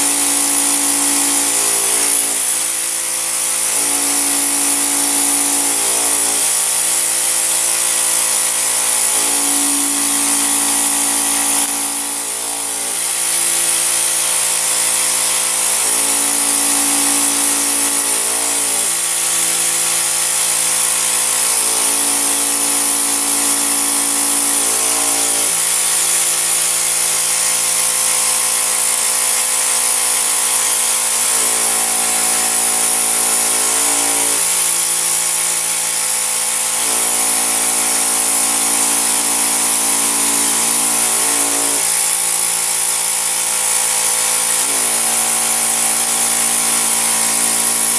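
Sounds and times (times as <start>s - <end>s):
vacuum cleaner whining: 0.0s - 47.9s.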